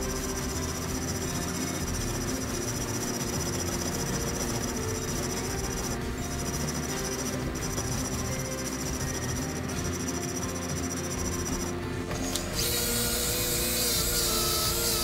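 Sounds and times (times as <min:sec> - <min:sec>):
fret saw cutting steel: 0:00.0 - 0:15.0.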